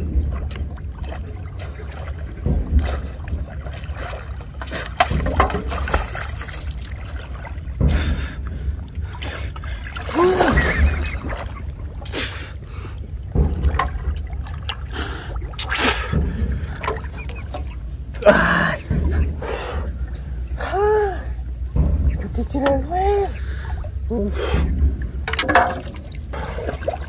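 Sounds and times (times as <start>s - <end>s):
river water sloshing and splashing: 0.0s - 27.0s.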